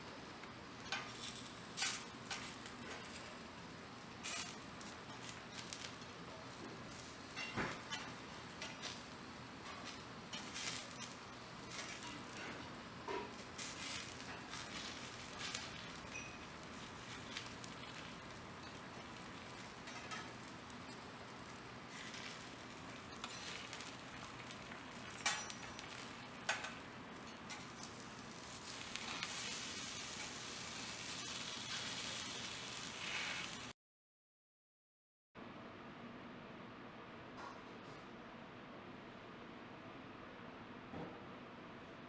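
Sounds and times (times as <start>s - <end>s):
steak sizzling: 0.0s - 33.7s.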